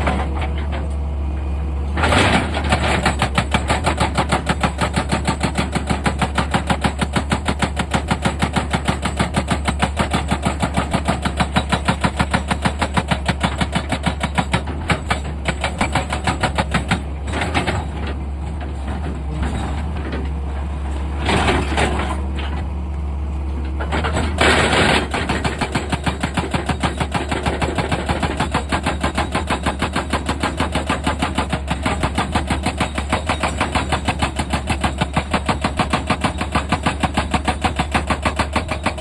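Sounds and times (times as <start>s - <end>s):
excavator engine hum: 0.0s - 39.0s
hydraulic rock breaker hammering: 2.0s - 18.1s, 23.8s - 39.0s.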